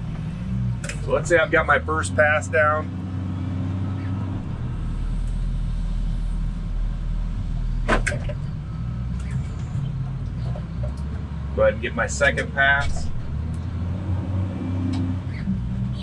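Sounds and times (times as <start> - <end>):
loader diesel engine under load: 0.0 - 16.0.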